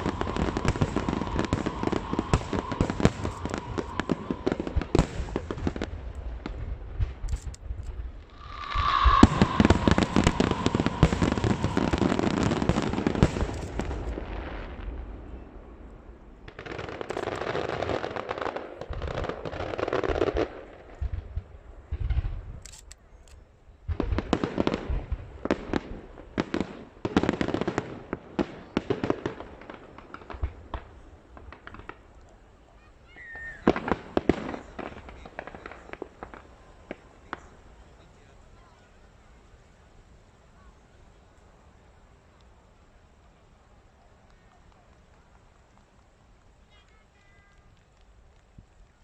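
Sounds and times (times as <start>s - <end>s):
fireworks bangs and crackling: 0.0s - 22.6s, 23.7s - 49.0s.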